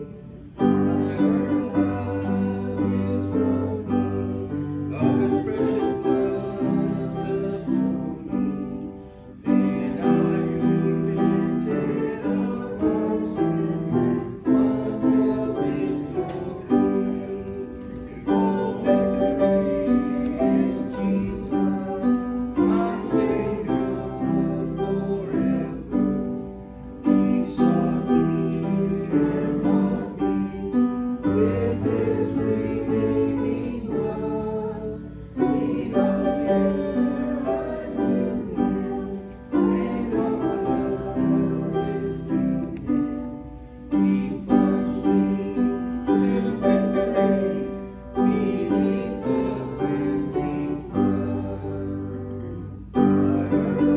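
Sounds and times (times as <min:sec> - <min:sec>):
congregation singing: 0:00.0 - 0:53.9
hymn on keyboard instrument: 0:00.0 - 0:53.9.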